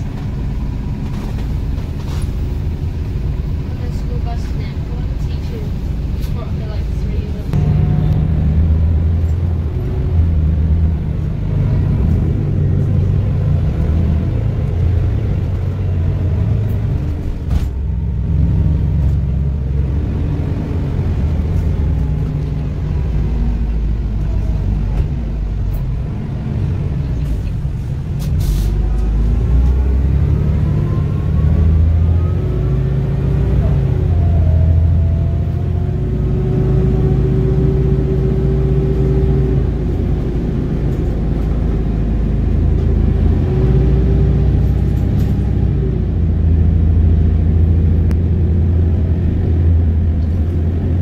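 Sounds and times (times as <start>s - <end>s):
vehicle low rumble: 0.0s - 51.0s.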